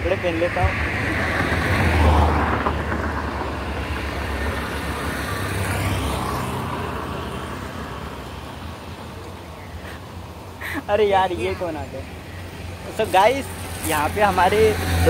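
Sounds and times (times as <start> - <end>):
vehicle passing with tyre hiss: 0.0 - 15.0.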